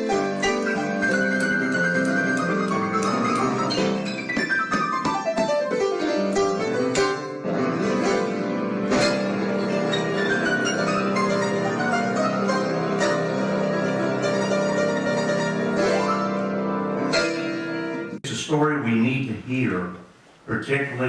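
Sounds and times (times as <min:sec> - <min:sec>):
instrumental music: 0:00.0 - 0:18.2.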